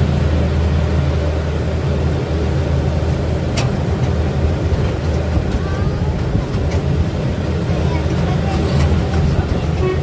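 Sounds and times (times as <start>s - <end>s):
miniature train rumbling on track: 0.0s - 10.0s.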